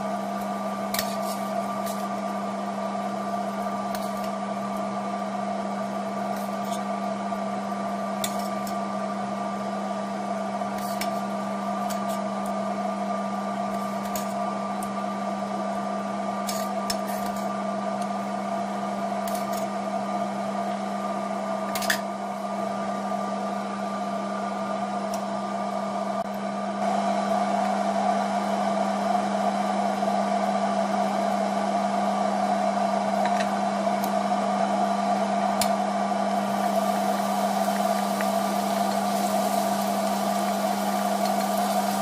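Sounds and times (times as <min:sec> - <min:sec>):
kitchen appliance humming: 0:00.0 - 0:42.0.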